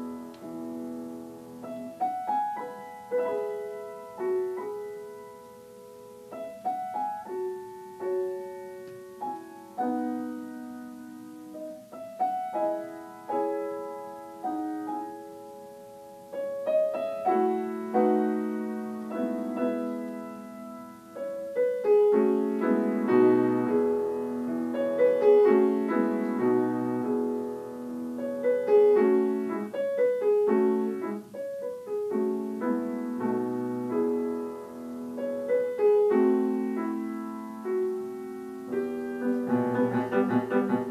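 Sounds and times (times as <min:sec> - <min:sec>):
solo piano: 0:00.0 - 0:40.9.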